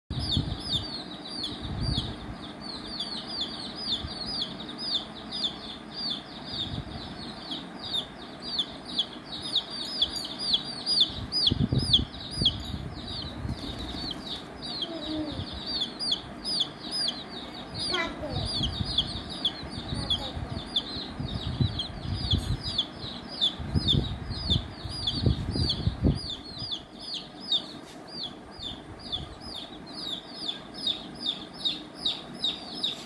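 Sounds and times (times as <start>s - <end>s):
chicks peeping: 0.1s - 33.0s.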